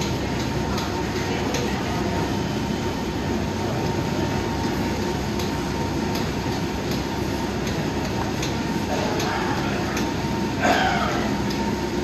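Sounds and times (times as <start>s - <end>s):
gym machines rumbling: 0.0s - 12.0s.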